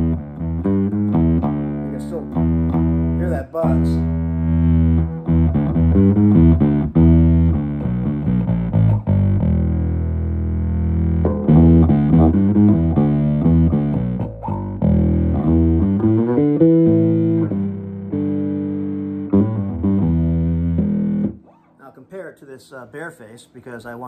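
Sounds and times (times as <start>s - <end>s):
electric bass guitar notes: 0.0s - 21.8s.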